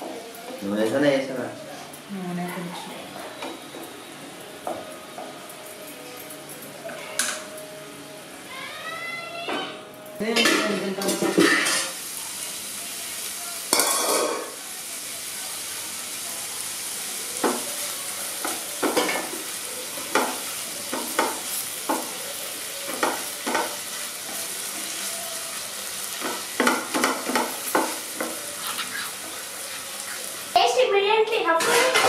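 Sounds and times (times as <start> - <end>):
vegetables sizzling in a pan: 0.0 - 32.0.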